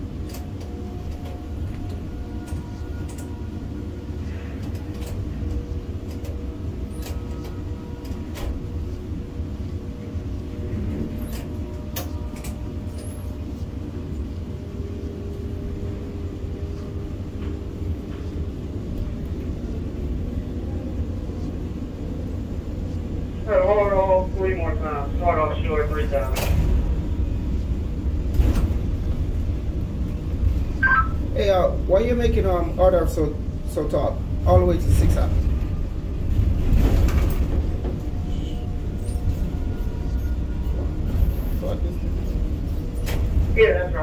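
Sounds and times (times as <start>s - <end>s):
crane machinery rumble: 0.0s - 44.0s.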